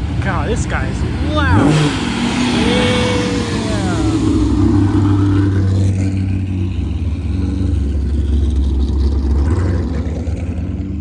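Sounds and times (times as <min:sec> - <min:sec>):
car engine and exhaust rumbling: 0:00.0 - 0:11.0.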